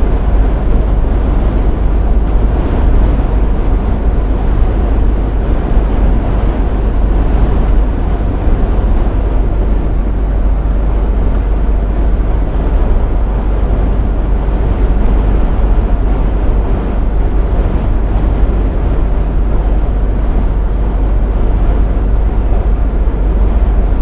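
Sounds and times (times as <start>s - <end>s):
truck driving drone: 0.0s - 24.0s.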